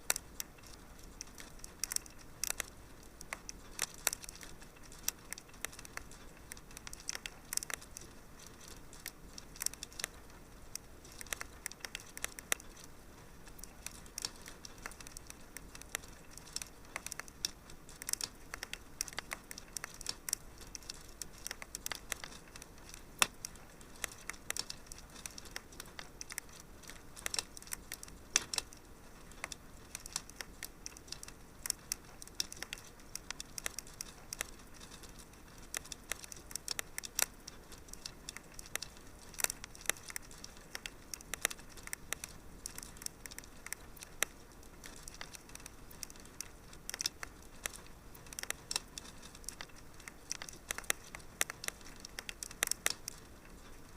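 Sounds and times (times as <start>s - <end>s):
fireplace fire crackling: 0.0s - 53.9s.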